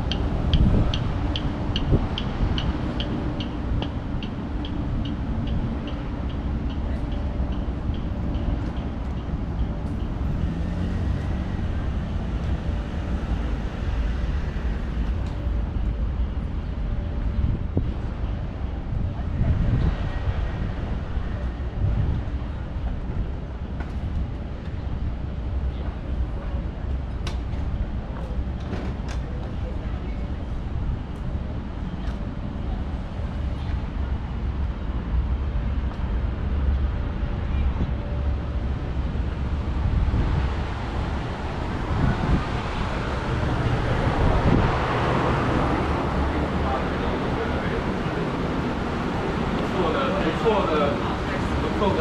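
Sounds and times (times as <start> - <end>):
passing vehicles rumble: 0.0 - 52.0
wind buffeting microphone: 0.0 - 52.0.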